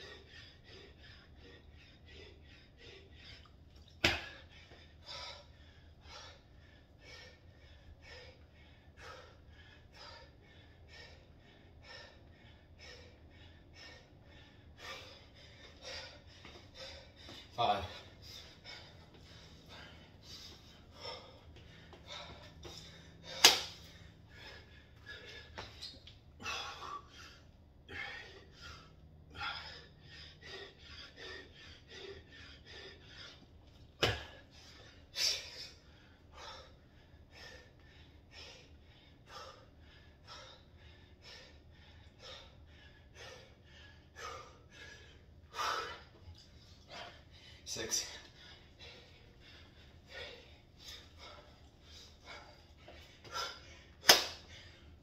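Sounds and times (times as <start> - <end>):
man breathing hard: 0.0 - 55.0.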